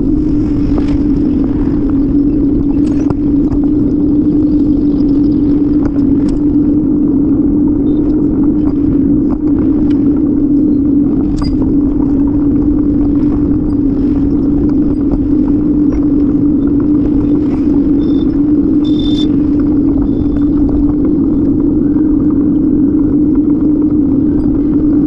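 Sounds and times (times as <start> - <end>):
constant low hum: 0.0 - 25.0
wind and road noise rumble: 0.0 - 25.0.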